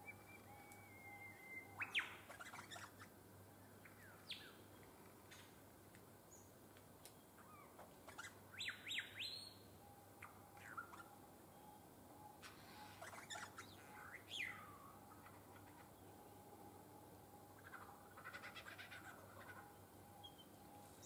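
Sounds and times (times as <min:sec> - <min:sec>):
birds chirping: 0:00.0 - 0:05.6, 0:07.2 - 0:21.0.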